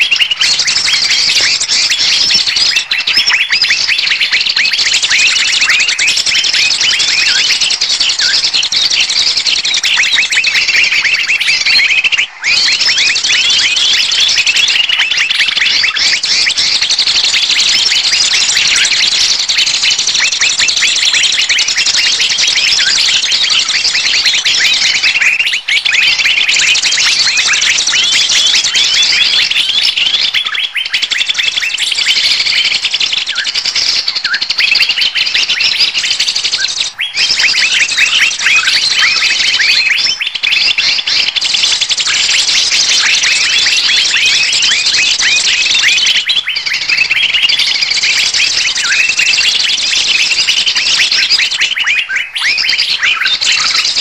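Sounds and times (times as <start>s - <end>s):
chorus of small birds chirping: 0.0s - 54.0s.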